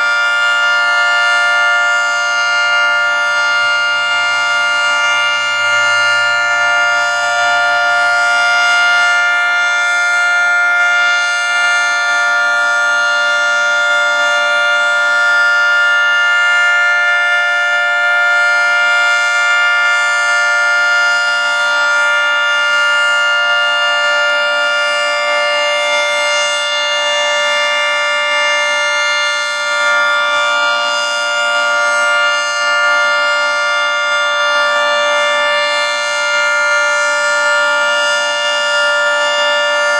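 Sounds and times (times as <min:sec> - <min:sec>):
warning siren steady chord: 0:00.0 - 0:39.9.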